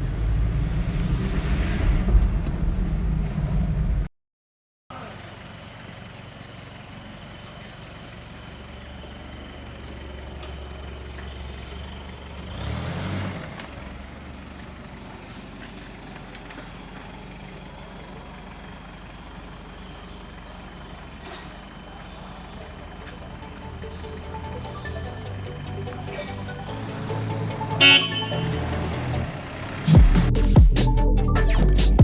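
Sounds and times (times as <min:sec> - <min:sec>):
vehicle engine rumbling: 0:00.0 - 0:04.1, 0:04.9 - 0:32.0.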